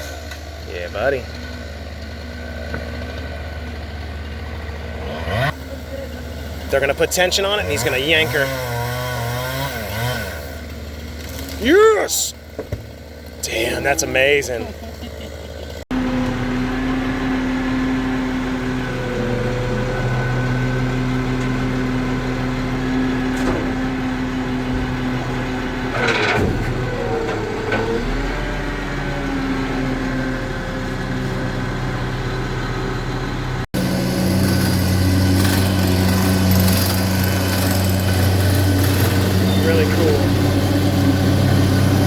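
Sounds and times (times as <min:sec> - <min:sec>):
engine idling: 0:00.0 - 0:09.1, 0:10.5 - 0:42.0.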